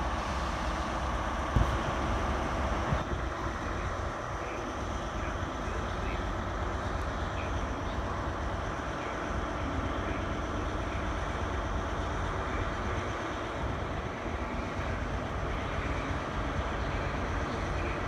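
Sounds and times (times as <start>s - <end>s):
distant diesel train rumble: 0.0s - 18.0s
railway yard noise: 0.0s - 18.0s.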